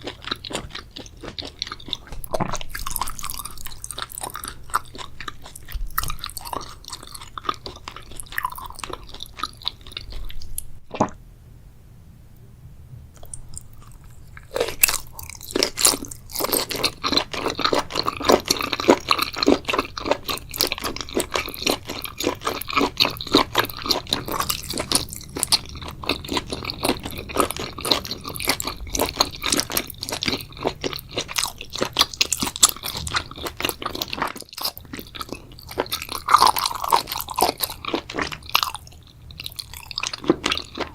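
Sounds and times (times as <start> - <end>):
close chewing and crunching: 0.0 - 11.1, 13.2 - 40.9.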